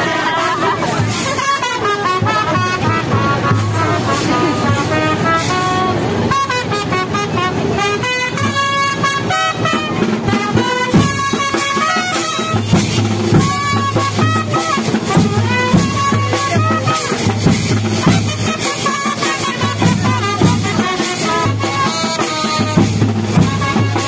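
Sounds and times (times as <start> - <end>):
street procession music: 0.0 - 24.0.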